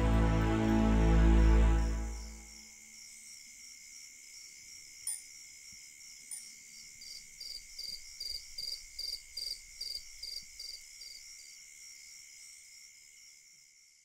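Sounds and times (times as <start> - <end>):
night insect chorus: 0.0 - 14.0.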